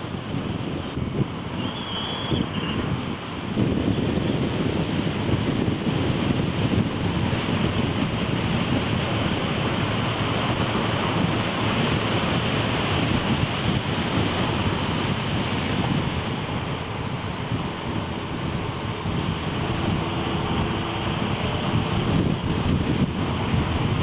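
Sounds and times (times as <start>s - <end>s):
vehicle road noise: 0.0s - 24.0s
wind on microphone: 0.0s - 24.0s.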